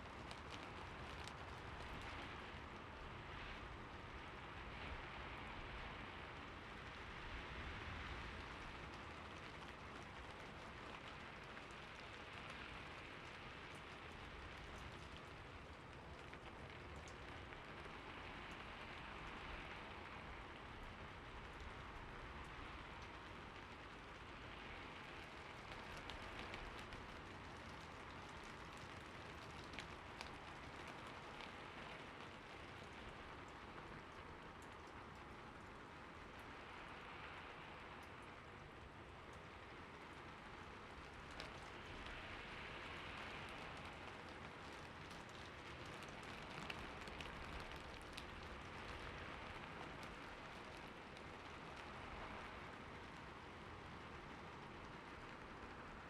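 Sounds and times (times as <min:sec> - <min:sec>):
rain falling on a surface: 0:00.0 - 0:56.0.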